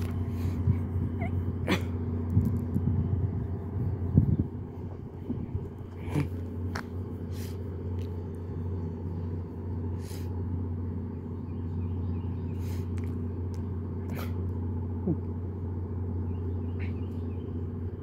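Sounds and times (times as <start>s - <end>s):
diesel train idling: 0.0s - 18.0s.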